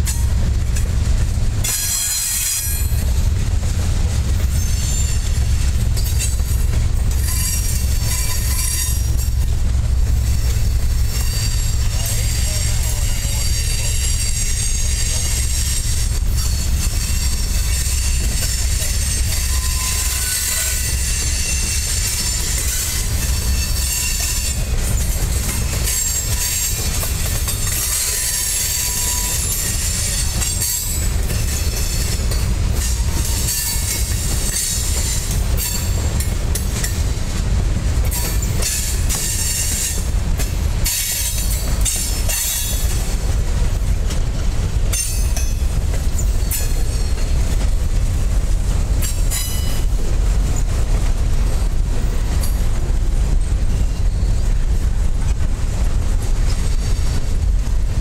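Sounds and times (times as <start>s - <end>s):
freight train rumbling past: 0.0s - 58.0s
train wheel squeal: 1.6s - 3.2s, 4.2s - 9.6s, 10.2s - 37.2s, 38.0s - 43.3s, 44.8s - 47.8s, 48.9s - 50.8s, 52.0s - 54.9s.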